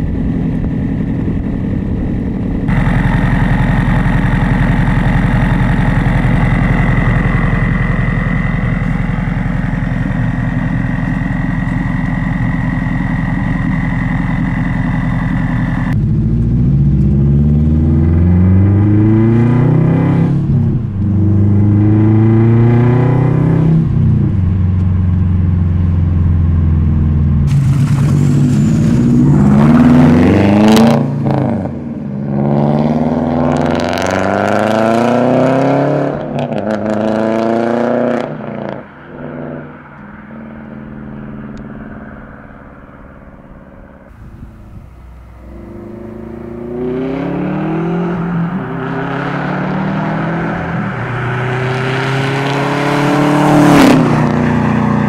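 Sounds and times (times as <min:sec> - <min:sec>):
car engine accelerating through gears: 0:02.6 - 0:55.0.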